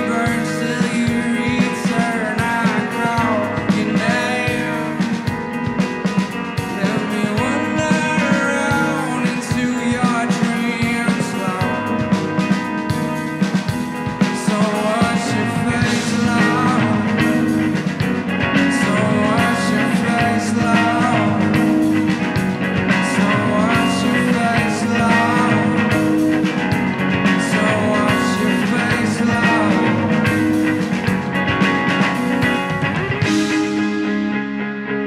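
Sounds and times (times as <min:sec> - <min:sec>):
electric guitar: 0:00.0 - 0:35.0
live rock band playing: 0:00.0 - 0:35.0.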